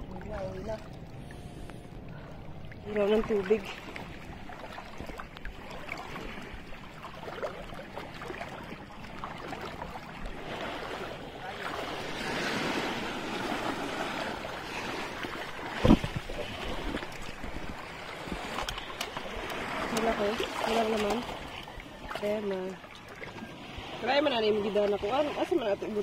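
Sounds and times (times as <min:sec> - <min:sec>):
sea water lapping on rocky shore: 0:00.0 - 0:26.0.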